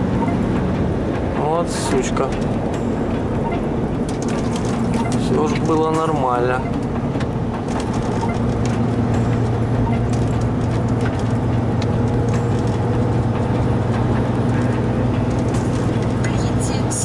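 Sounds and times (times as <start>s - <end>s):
lorry engine and road noise: 0.0s - 17.0s.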